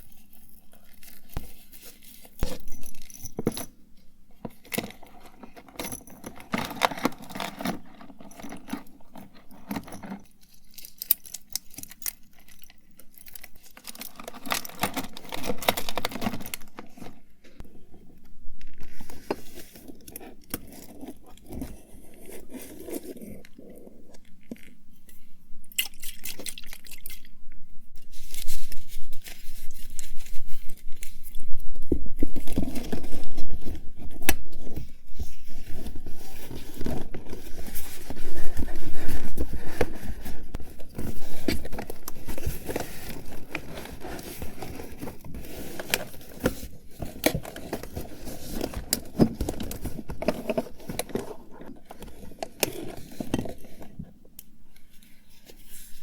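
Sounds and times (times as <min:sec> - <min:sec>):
small objects being handled: 0:00.0 - 0:56.0.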